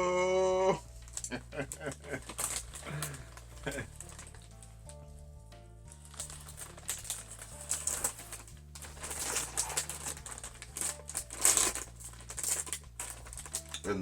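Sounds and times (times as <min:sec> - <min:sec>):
soft background music: 0:00.0 - 0:14.0
tortilla snacks crunching: 0:00.8 - 0:04.6, 0:06.0 - 0:14.0
snack packaging crackling: 0:00.8 - 0:05.1, 0:05.9 - 0:14.0.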